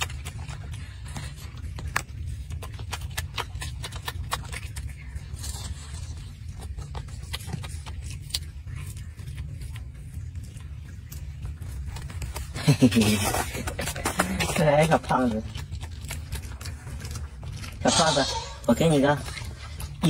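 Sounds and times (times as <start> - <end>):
monkey chewing: 0.0 - 20.0.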